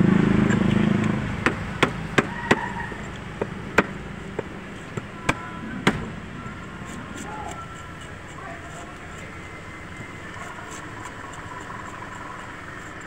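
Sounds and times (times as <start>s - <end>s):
street background noise: 0.0s - 13.0s.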